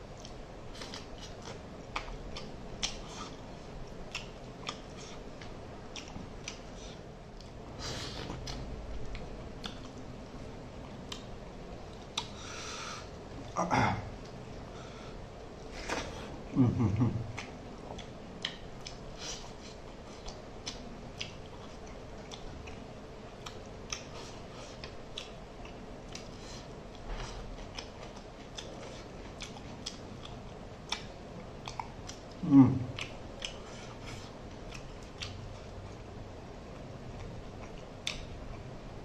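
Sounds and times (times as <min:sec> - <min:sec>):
chewing and lip-smacking: 0:00.0 - 0:07.6, 0:08.2 - 0:12.4, 0:17.3 - 0:38.9.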